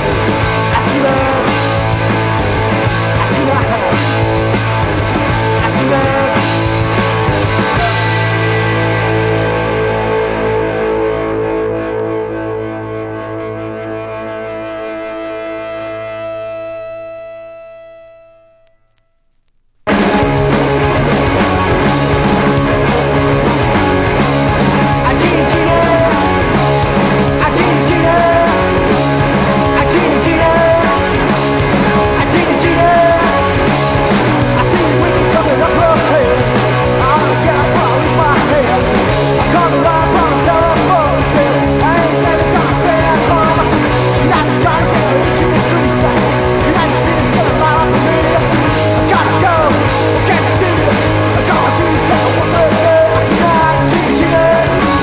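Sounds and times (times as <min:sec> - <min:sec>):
drums: 0:00.0 - 0:16.8, 0:19.7 - 0:55.0
electric guitars: 0:00.0 - 0:19.0, 0:19.9 - 0:55.0
bass guitar: 0:00.0 - 0:55.0.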